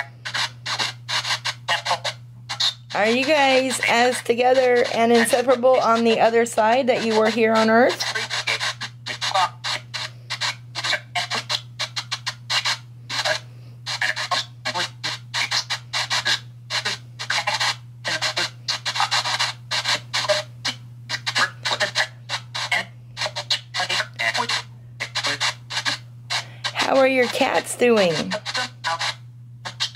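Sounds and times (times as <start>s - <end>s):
broken broadcast voices: 0.0s - 29.9s
radio static bursts: 0.0s - 29.9s
steady low hum: 0.0s - 29.9s.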